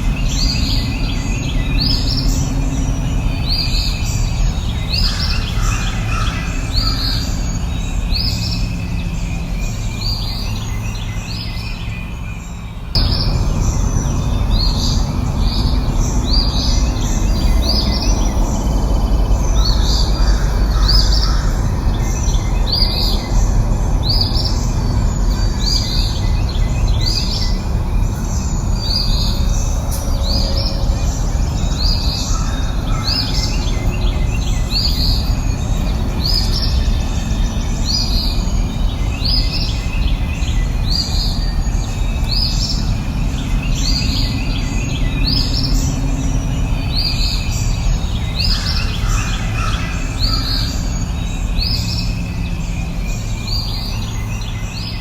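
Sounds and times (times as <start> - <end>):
low rushing background noise: 0.0 - 55.0
songbird calling: 0.0 - 55.0.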